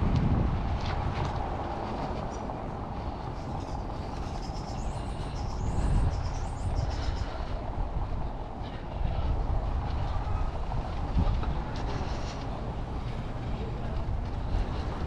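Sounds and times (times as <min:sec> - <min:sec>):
street noise: 0:00.0 - 0:15.0
wind rumble: 0:00.0 - 0:15.0.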